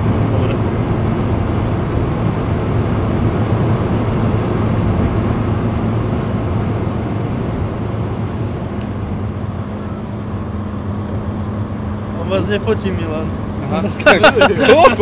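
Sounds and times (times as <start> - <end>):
road rumble: 0.0 - 15.0
van engine hum: 0.0 - 15.0.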